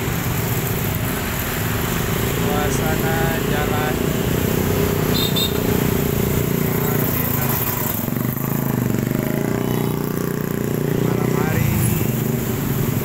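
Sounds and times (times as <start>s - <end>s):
motorbikes passing close: 0.0s - 13.0s
steady hum of engines: 0.0s - 13.0s.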